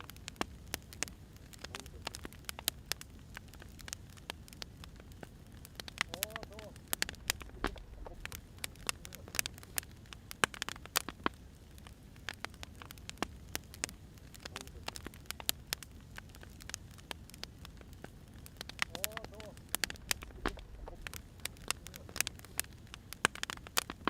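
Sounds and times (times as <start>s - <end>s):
fire crackling and popping: 0.0s - 24.0s
low rumble of burning: 0.0s - 24.0s.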